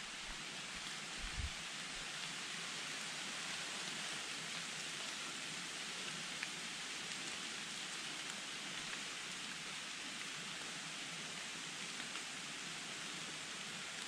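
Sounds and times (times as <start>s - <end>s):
rain falling on leaves: 0.0s - 14.0s.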